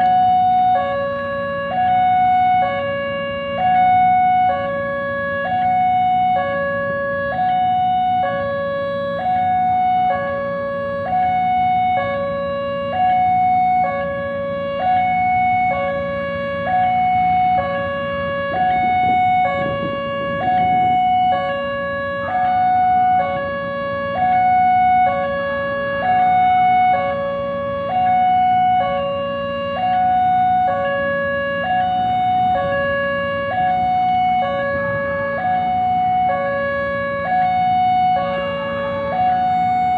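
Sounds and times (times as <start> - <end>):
two-tone crossing warning siren: 0.0 - 39.9.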